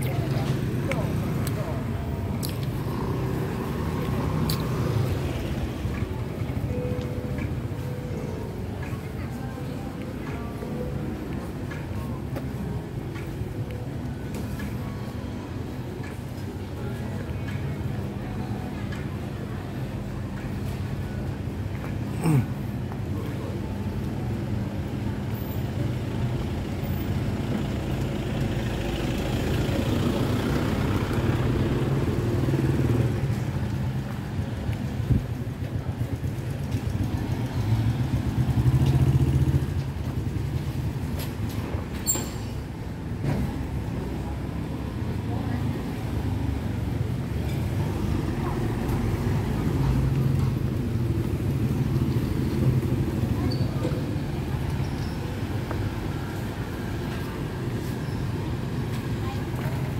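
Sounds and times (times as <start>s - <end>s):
street traffic engines: 0.0s - 59.9s.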